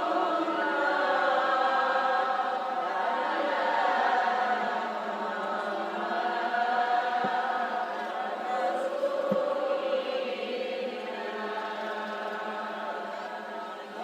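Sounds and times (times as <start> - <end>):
voices chanting together: 0.0 - 14.0.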